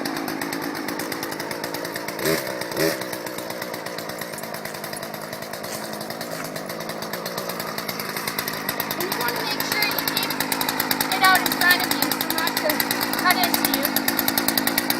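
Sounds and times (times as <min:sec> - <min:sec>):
chainsaw idling: 0:00.0 - 0:14.9.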